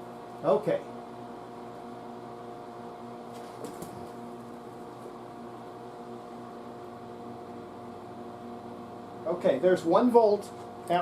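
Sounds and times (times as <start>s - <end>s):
amplifier electrical hum: 0.0s - 11.0s.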